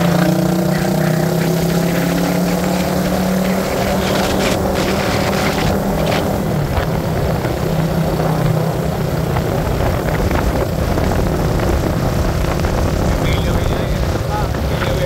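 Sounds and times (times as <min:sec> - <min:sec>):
constant rushing noise: 0:00.0 - 0:15.0
vehicle engine drone: 0:00.0 - 0:15.0.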